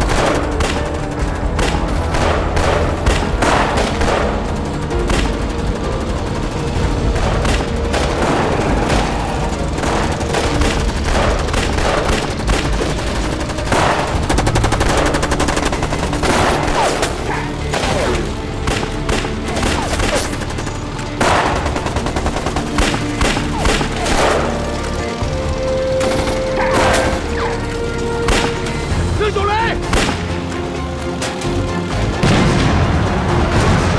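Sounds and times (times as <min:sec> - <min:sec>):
dramatic music score: 0:00.0 - 0:33.9
rapid gunfire: 0:00.0 - 0:33.9.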